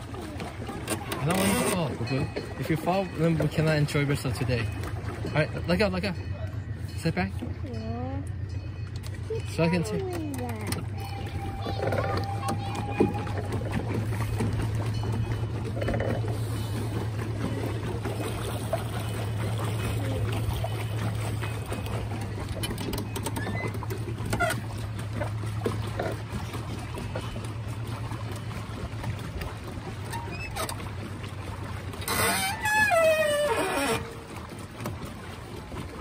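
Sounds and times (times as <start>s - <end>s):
paddle wheel churning water: 0.0s - 36.0s
water trickling and splashing: 0.0s - 36.0s.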